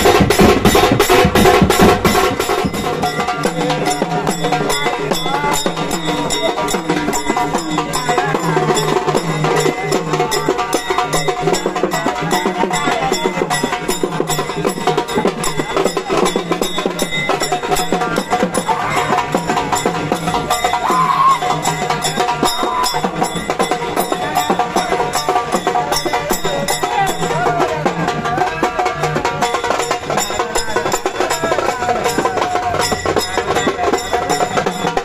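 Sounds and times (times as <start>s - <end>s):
fast dense drumming: 0.0s - 35.0s
wood block percussion: 0.0s - 35.0s.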